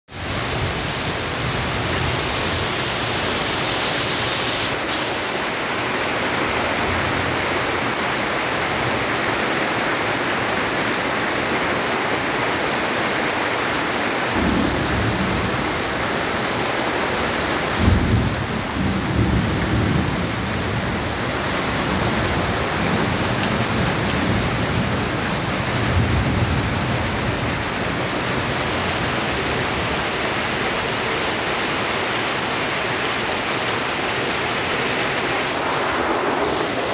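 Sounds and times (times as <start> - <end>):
heavy rain on foliage: 0.1 - 36.9.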